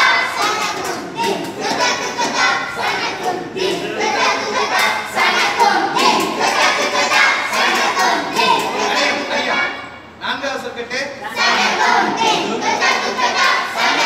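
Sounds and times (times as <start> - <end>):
group chanting in unison: 0.0 - 10.0, 11.2 - 14.0.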